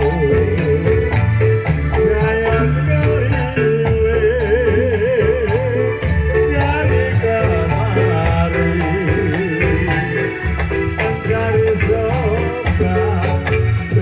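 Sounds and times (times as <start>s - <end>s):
frame drums and jingles: 0.0s - 14.0s
melody with wavering vibrato: 0.0s - 14.0s.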